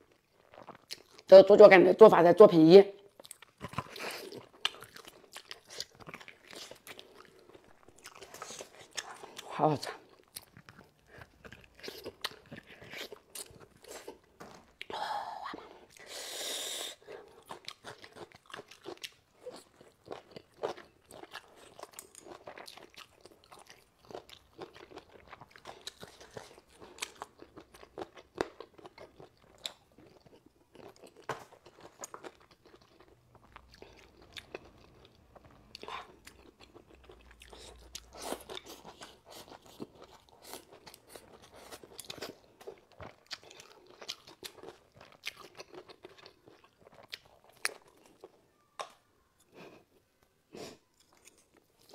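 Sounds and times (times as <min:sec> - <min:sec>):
person chewing meat: 0:00.0 - 0:01.3, 0:03.1 - 0:16.1, 0:16.9 - 0:48.4, 0:49.4 - 0:51.9.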